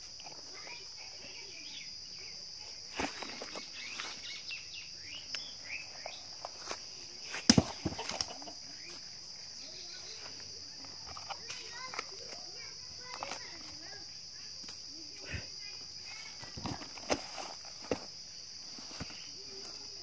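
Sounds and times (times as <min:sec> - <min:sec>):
insects shrilling: 0:00.0 - 0:20.0.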